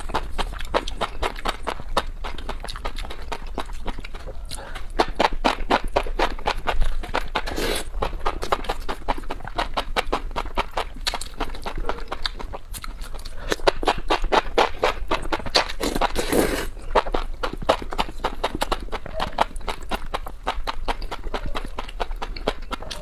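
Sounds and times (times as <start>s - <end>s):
chewing and mouth sounds: 0.0s - 23.0s.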